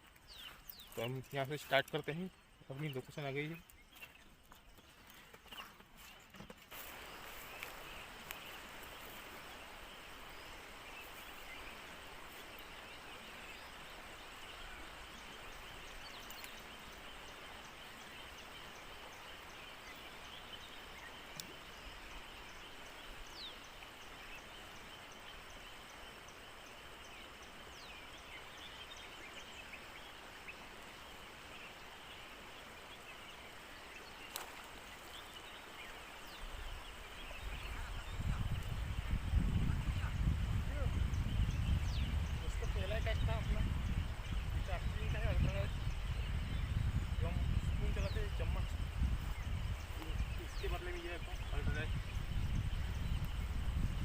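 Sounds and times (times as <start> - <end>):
faint chirps and clicks: 0.0 - 39.3, 44.3 - 53.8
outdoor background hiss: 0.0 - 54.0.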